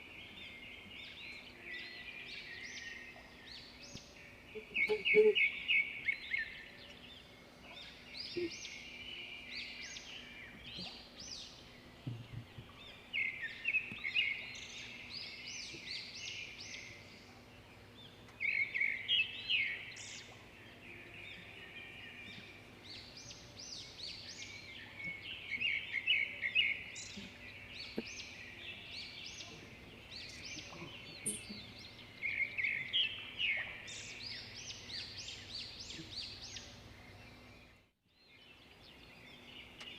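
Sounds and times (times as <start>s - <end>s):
bird chirping: 0.0s - 39.9s
faint background noise: 0.0s - 39.9s.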